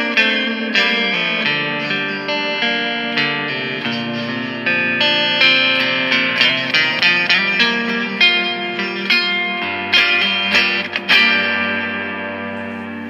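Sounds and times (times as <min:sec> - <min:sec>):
clean electric guitar with reverb: 0:00.0 - 0:13.0.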